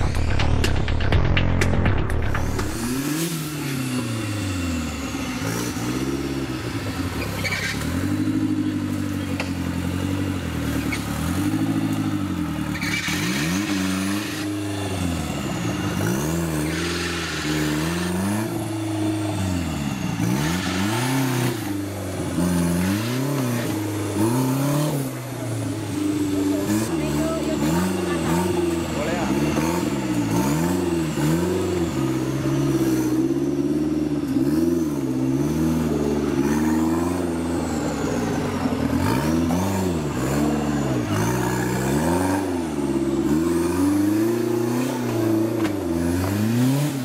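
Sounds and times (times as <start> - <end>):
truck engine revving: 0.0 - 47.0.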